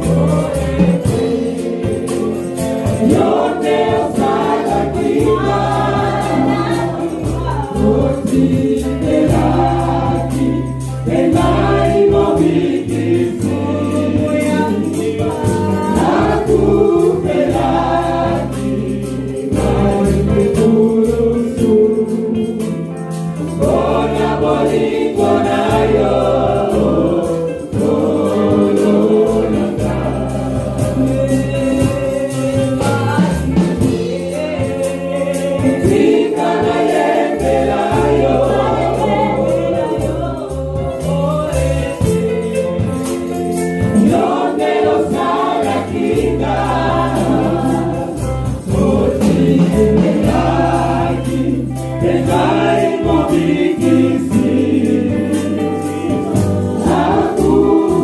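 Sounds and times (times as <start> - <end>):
gospel choir singing: 0.0 - 58.0
tambourine: 0.0 - 58.0.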